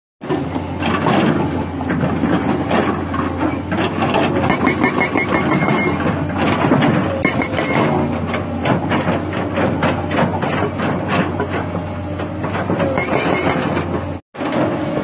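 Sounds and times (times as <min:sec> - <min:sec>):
excavator engine running: 0:00.2 - 0:15.0
hydraulic breaker hammering rock: 0:00.2 - 0:15.0.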